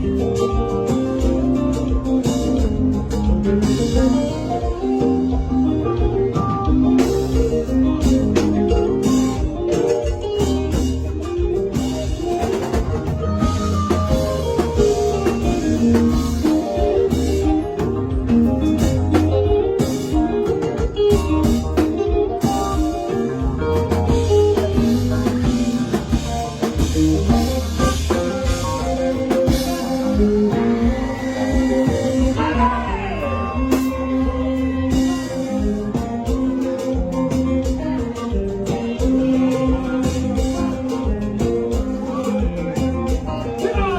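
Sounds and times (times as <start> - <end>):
band music: 0.0 - 43.9
drum beat: 0.0 - 43.9
lead guitar solo: 0.0 - 43.9.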